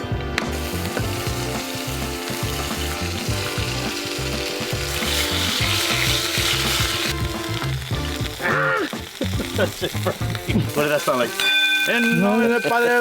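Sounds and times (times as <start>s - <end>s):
background music with beat: 0.0s - 11.8s
meatballs sizzling in oil: 0.5s - 13.0s.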